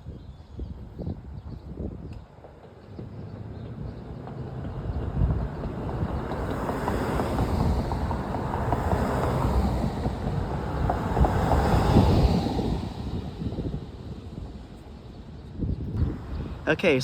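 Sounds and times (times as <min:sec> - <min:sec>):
wind buffeting microphone: 0:00.0 - 0:17.0
road traffic noise: 0:02.2 - 0:17.0.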